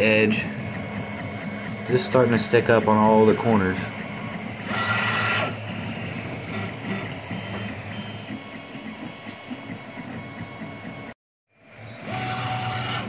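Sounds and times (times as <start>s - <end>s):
steady mechanical hum: 0.0s - 13.0s
stepper motors whining: 0.0s - 13.0s.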